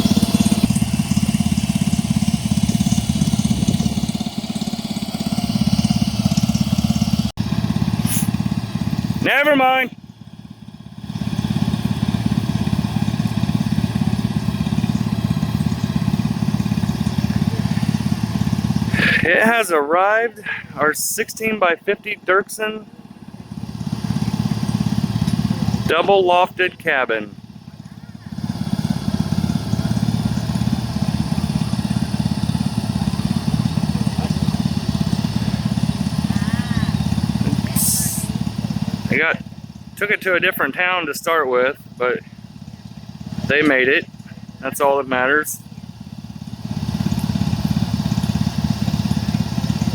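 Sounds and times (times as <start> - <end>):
vehicle engine running: 0.0 - 49.9.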